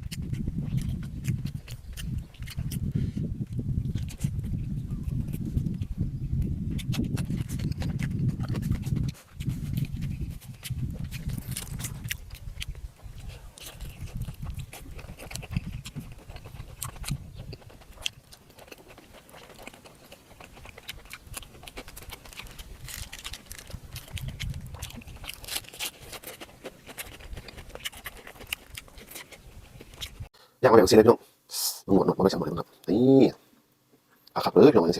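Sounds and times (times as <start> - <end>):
person chewing and smacking: 0.0 - 30.3.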